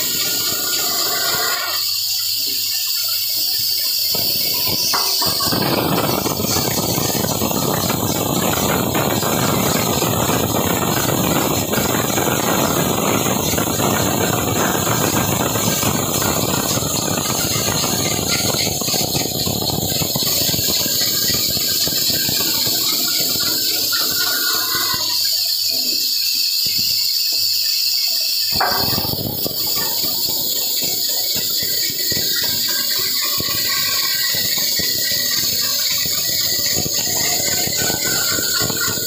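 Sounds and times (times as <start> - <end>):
saw high whine: 0.0 - 39.0.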